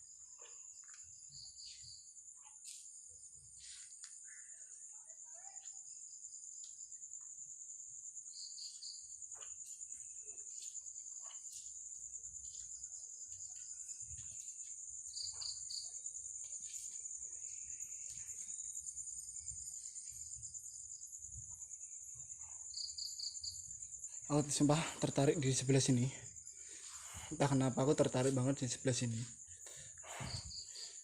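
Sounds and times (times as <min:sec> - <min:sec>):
crickets trilling: 0:00.0 - 0:31.0
quick insect chirps: 0:00.0 - 0:31.0.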